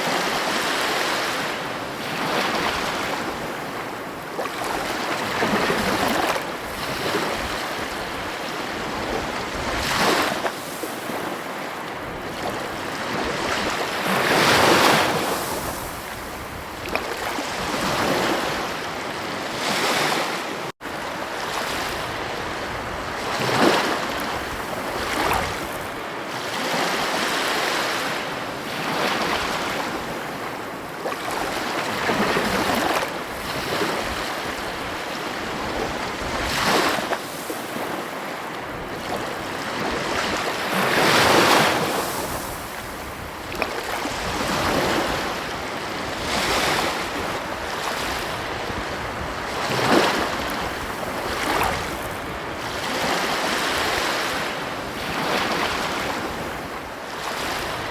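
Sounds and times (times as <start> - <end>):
waves breaking on shore: 0.0 - 57.9.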